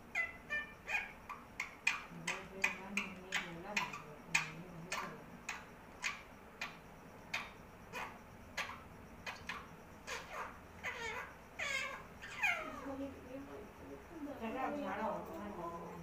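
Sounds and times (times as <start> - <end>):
parakeet chirping: 0.0 - 14.8.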